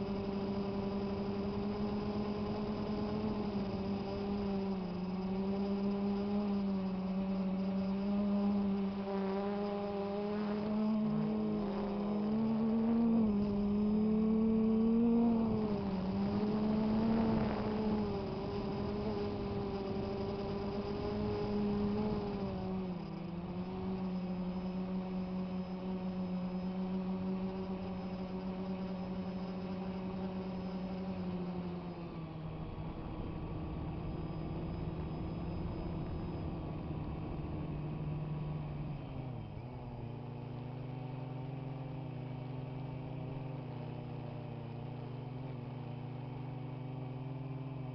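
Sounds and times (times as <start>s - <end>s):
drone propellers buzzing: 0.0s - 45.2s.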